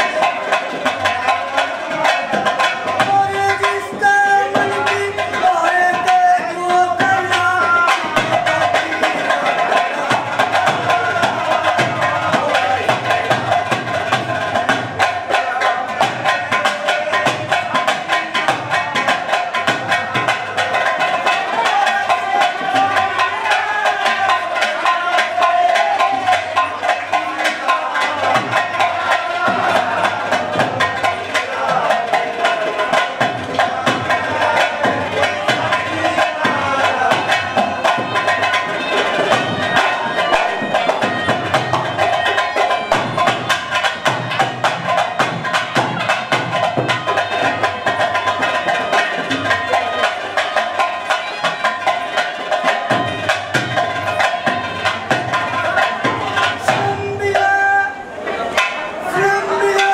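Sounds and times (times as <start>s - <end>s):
fast hand-drum beat: 0.0s - 59.9s.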